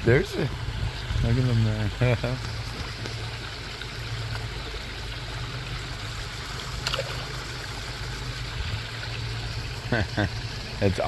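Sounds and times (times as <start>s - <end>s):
low steady hum: 0.0s - 11.0s
waterfall splashing into pond: 0.0s - 11.0s.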